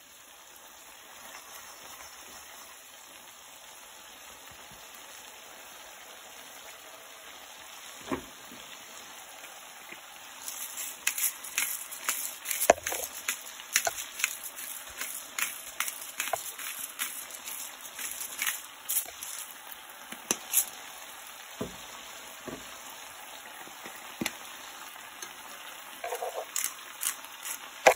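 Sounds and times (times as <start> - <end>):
sauce bubbling and sizzling: 0.0 - 27.9.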